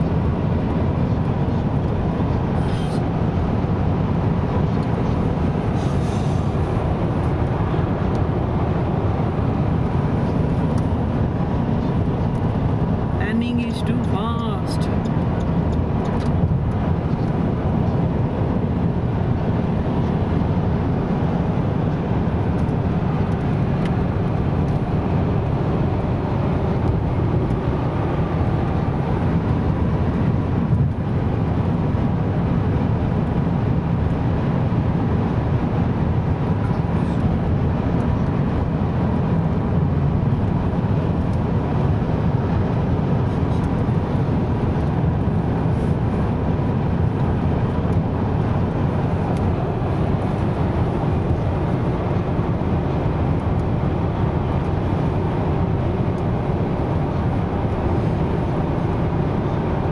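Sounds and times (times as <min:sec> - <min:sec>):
car engine running: 0:00.0 - 0:59.9
tyres on road: 0:00.0 - 0:59.9.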